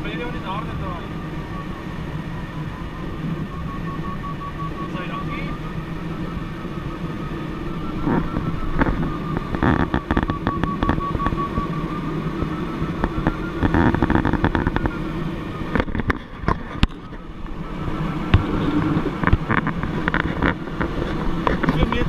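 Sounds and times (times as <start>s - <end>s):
faint steady high tone: 0.0s - 19.0s
airflow noise: 0.0s - 22.0s.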